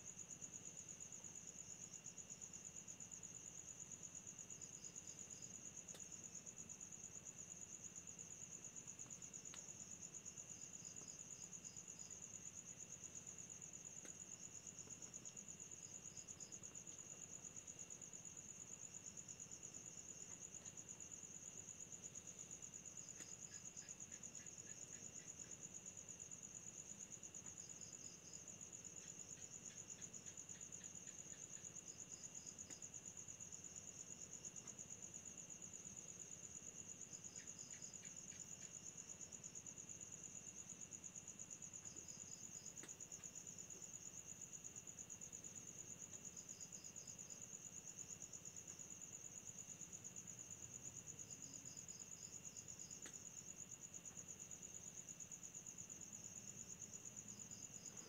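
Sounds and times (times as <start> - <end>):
cricket trill: 0.0 - 58.0.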